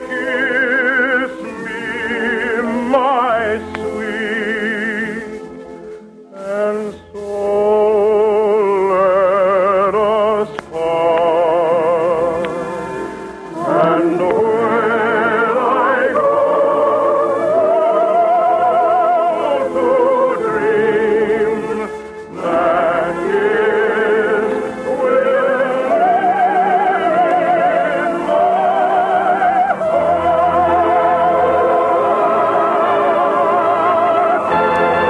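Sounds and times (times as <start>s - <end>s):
soprano singing opera: 0.0s - 5.4s, 6.3s - 35.0s
orchestra: 0.0s - 35.0s.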